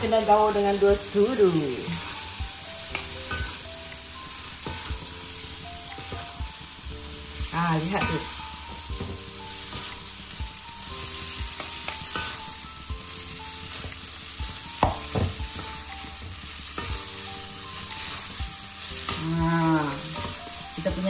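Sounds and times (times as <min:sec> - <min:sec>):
noodles sizzling in a pan: 0:00.0 - 0:21.0.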